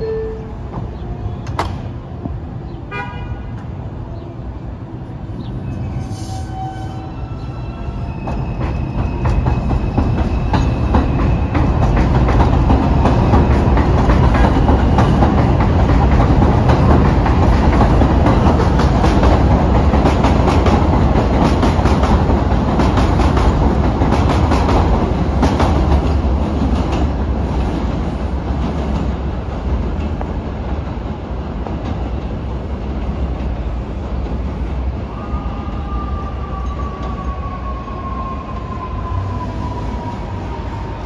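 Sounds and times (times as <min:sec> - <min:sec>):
subway train wheels clicking: 0:00.0 - 0:41.0
train rumble: 0:00.0 - 0:41.0.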